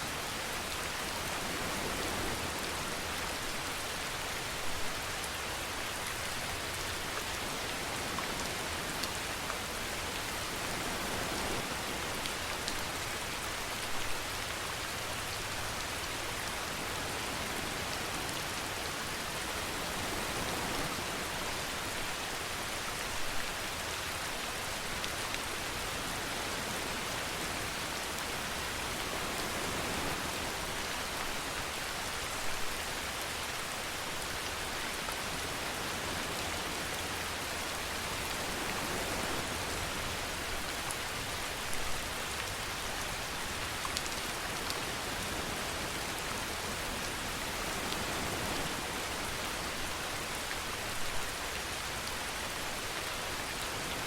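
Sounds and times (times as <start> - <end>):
rain hissing and pattering: 0.0 - 54.0.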